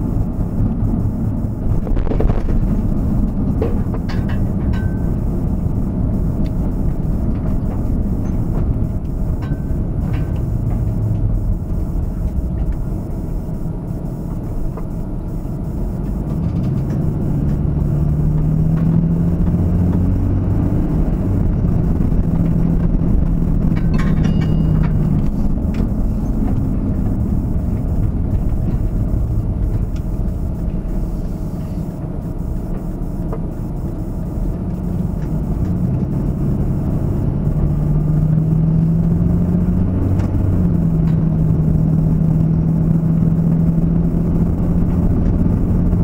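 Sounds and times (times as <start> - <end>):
engine tone rising in pitch: 0.0 - 46.0
vehicle road rumble: 0.0 - 46.0.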